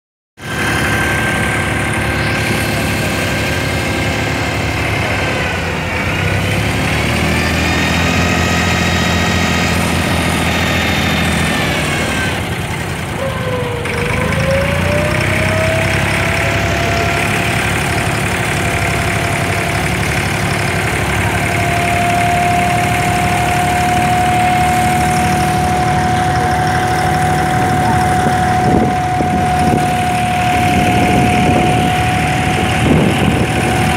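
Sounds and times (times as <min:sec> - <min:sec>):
boat engine running with whine: 0:00.4 - 0:33.9.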